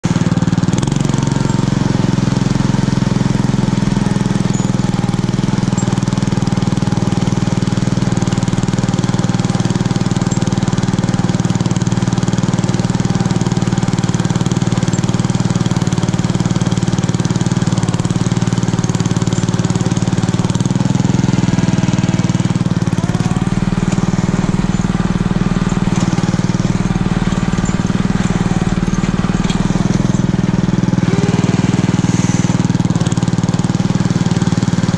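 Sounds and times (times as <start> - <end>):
small engine running under load: 0.0 - 34.9.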